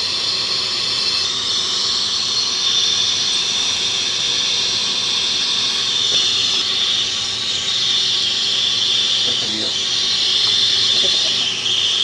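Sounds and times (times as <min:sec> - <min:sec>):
dental equipment hissing: 0:00.0 - 0:12.0.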